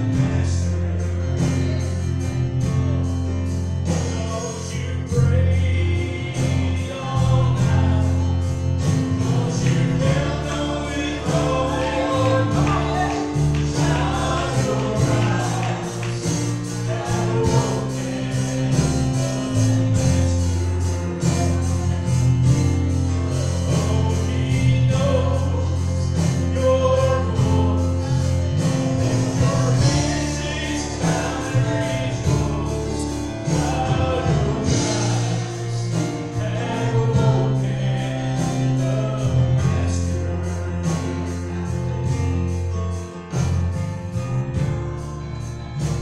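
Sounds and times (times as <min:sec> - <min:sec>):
man singing gospel song: 0:00.0 - 0:02.2, 0:03.8 - 0:42.4
instrumental accompaniment with beat: 0:00.0 - 0:46.0
backing singers: 0:04.0 - 0:41.5.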